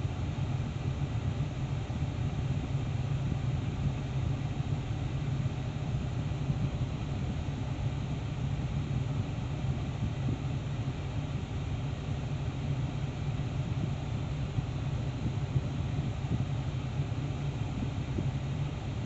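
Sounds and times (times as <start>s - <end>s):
steady rushing noise with low rumble: 0.2s - 19.0s.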